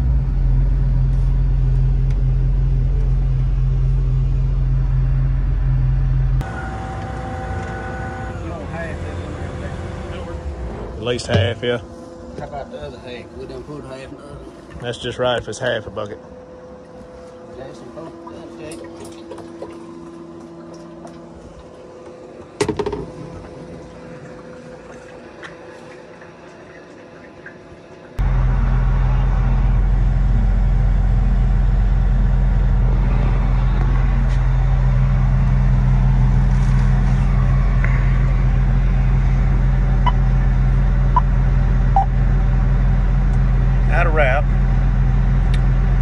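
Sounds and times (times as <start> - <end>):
diesel engine droning: 0.0 - 26.3, 28.0 - 46.0.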